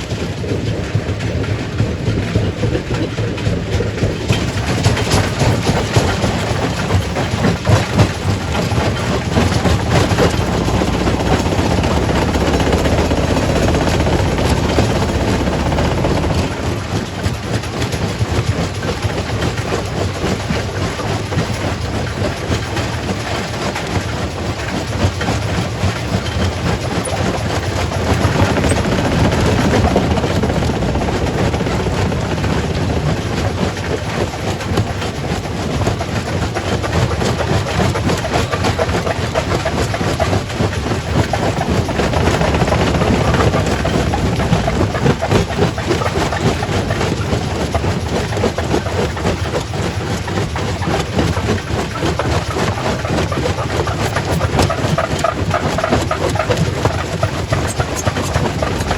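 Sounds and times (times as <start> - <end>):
rock crusher rumbling: 2.8 - 20.0, 26.0 - 58.9.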